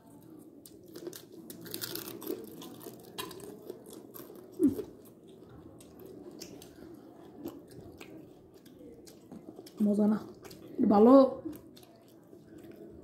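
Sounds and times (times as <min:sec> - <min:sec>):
person chewing food: 0:00.0 - 0:10.8, 0:11.4 - 0:13.0.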